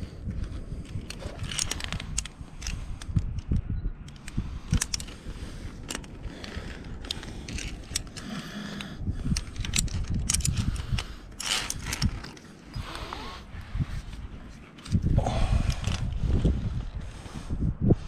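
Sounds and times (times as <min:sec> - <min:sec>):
carabiners clicking on steel cable: 0:00.0 - 0:16.3
lanyards rubbing: 0:00.0 - 0:17.3.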